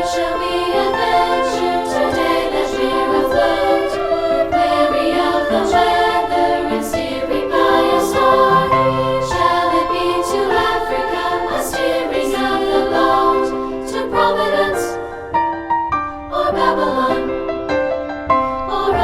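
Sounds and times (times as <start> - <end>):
choir singing upbeat song: 0.0 - 15.4, 16.3 - 17.6, 18.5 - 19.0.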